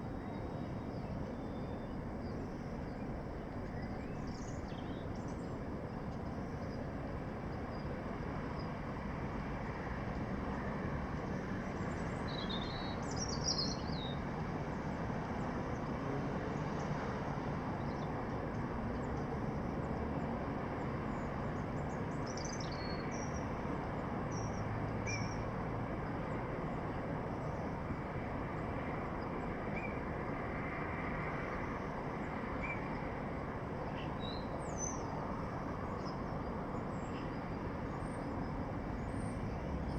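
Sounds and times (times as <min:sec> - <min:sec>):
distant city hum: 0:00.0 - 0:39.9.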